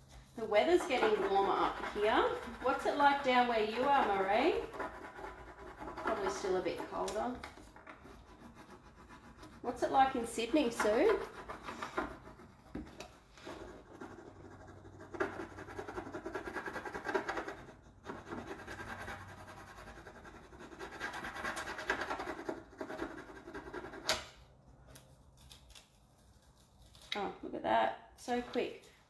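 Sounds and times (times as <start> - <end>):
dry scratching and rubbing: 0.0 - 24.1, 24.9 - 27.1.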